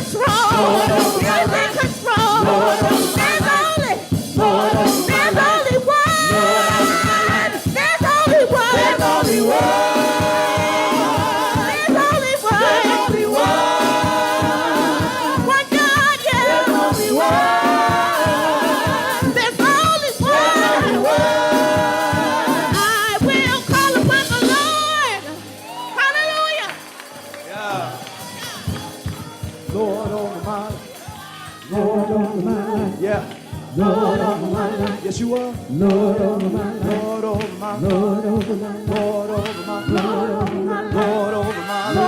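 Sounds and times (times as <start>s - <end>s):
gospel group singing with band: 0.0s - 26.8s, 27.5s - 42.0s.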